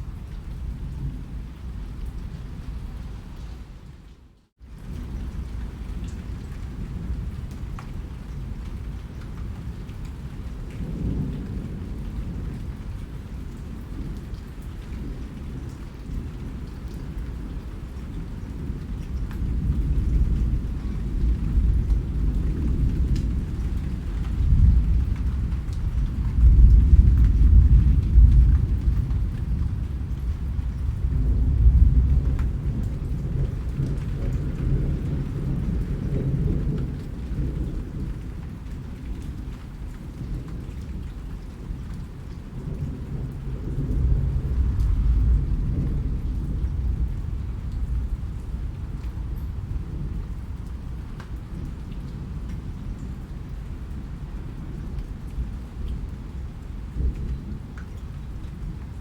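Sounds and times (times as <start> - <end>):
rain falling: 0.0 - 59.0
rolling thunder rumble: 4.7 - 59.0.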